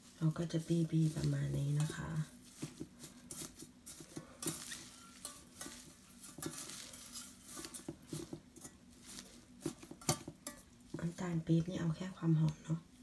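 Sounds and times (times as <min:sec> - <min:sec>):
crackly rustling with small ticks: 0:00.0 - 0:13.0
hands kneading flowers in a pot: 0:00.0 - 0:13.0.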